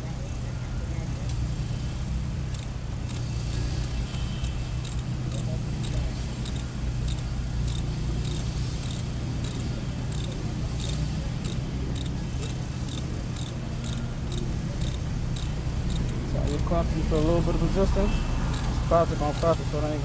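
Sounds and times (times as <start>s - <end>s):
steady low hum: 1.4s - 20.0s
insect chirping: 2.5s - 20.0s.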